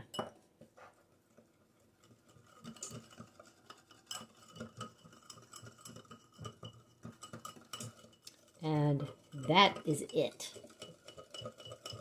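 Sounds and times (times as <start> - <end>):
whisk clinking against glass bowl: 0.0 - 0.5, 2.0 - 12.0.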